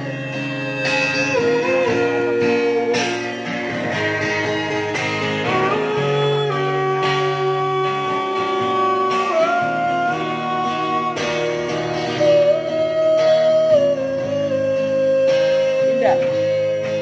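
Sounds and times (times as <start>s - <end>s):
electric guitar through small amplifier: 0.0s - 17.0s.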